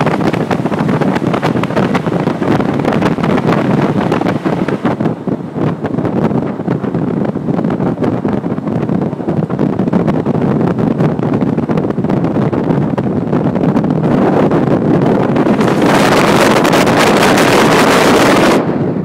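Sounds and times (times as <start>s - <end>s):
boat motor and hull on water: 0.0s - 19.0s
wind buffeting microphone: 0.0s - 19.0s.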